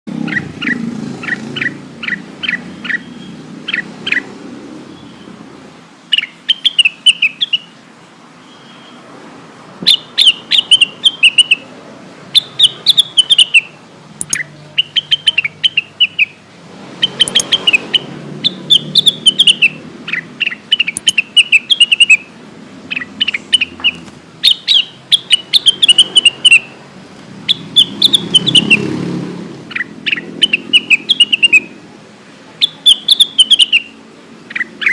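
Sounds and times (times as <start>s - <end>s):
bird chipping and twittering: 0.1s - 9.1s, 9.8s - 11.7s, 12.3s - 31.9s, 32.5s - 34.9s.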